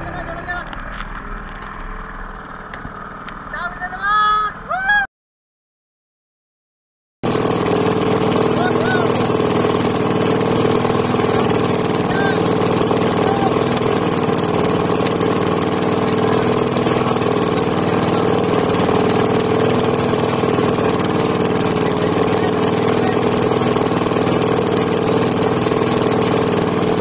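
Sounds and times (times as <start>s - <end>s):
boat engine idling: 0.0s - 5.0s, 7.2s - 27.0s.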